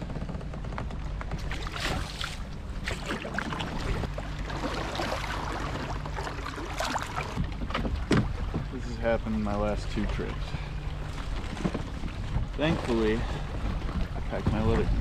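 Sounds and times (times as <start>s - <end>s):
low steady rumble: 0.0s - 15.0s
paddle splashing water: 1.4s - 15.0s.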